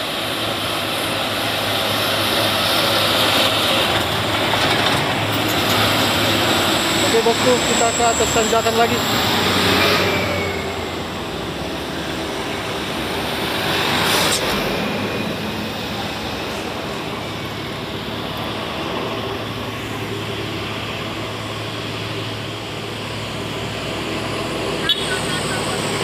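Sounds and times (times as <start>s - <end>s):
diesel trucks running: 0.0s - 26.0s.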